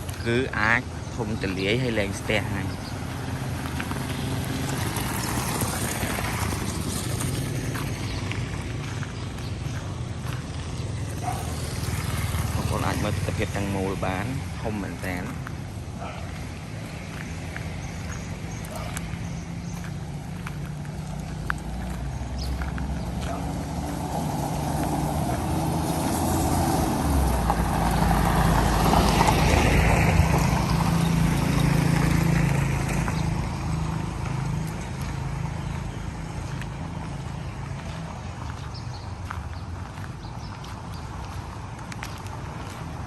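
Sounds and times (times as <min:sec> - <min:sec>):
vehicle engine passing by: 0:00.0 - 0:40.6.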